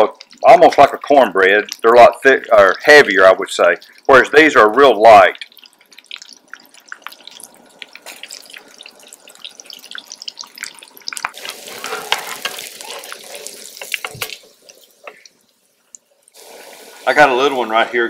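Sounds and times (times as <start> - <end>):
food deep-frying in hot oil: 0.0 - 18.0.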